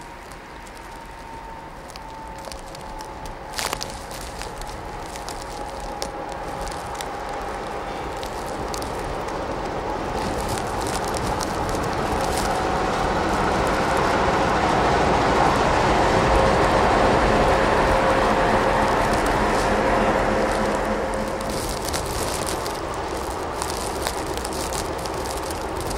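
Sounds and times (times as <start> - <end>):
diesel locomotive passing: 0.0 - 25.9.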